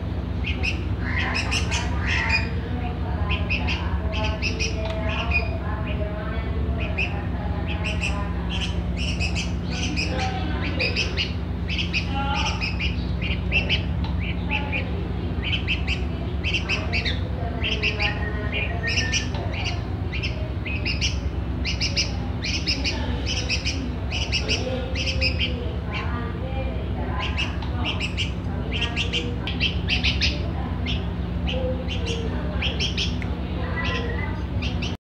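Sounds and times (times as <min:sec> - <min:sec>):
young bird chirping: 0:00.0 - 0:06.1, 0:06.7 - 0:26.3, 0:27.0 - 0:35.0
steady low hum: 0:00.0 - 0:35.0.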